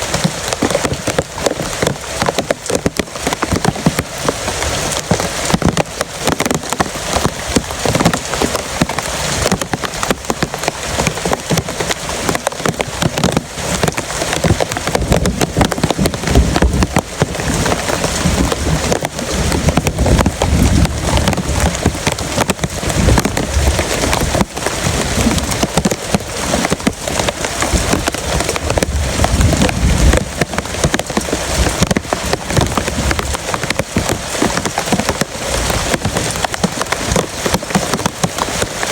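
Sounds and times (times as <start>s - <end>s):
heavy rain pouring: 0.0s - 38.9s
strong wind gusting: 0.0s - 38.9s.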